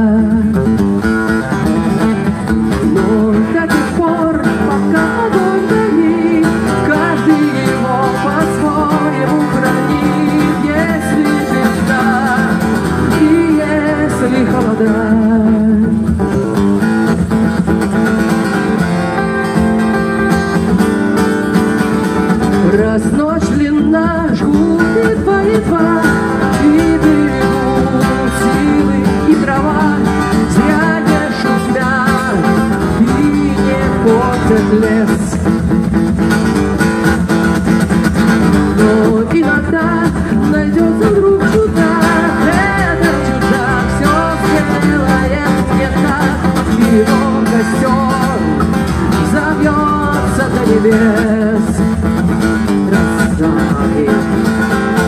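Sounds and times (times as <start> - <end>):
woman singing into a microphone: 0.0 - 0.9, 2.0 - 16.3, 22.5 - 35.7, 38.4 - 54.6
acoustic guitar strumming: 0.0 - 55.0.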